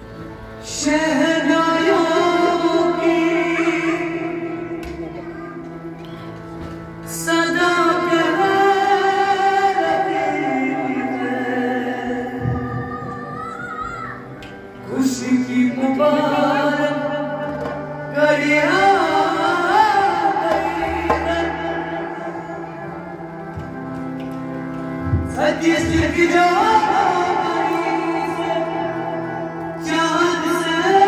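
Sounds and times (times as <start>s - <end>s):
harmonium chords: 0.0s - 31.0s
man singing: 0.4s - 5.5s, 7.0s - 13.4s, 14.8s - 23.5s, 25.2s - 31.0s.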